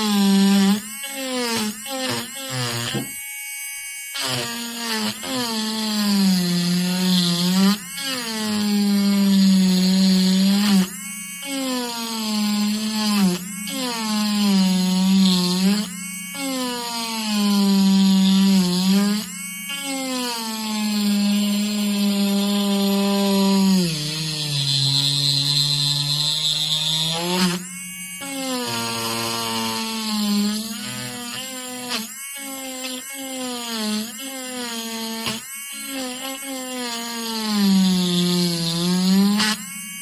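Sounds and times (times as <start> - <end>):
rotary grinder motor whining: 0.0 - 40.0.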